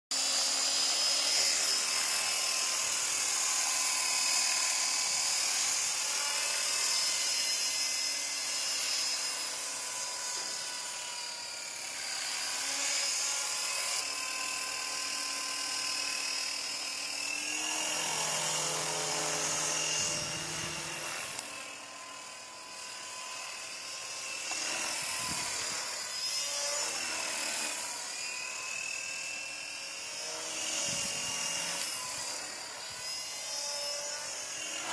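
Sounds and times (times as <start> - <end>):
rc helicopter whine: 0.1 - 34.9.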